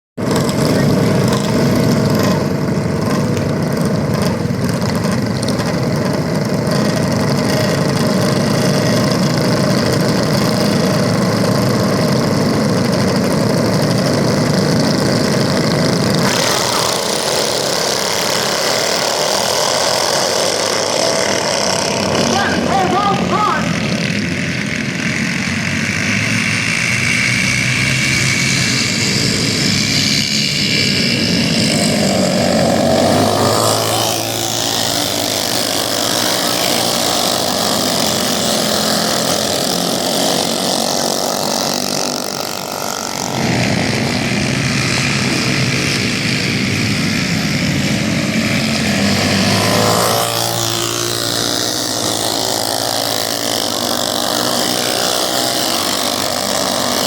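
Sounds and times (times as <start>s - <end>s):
small racing engines: 0.2s - 57.0s.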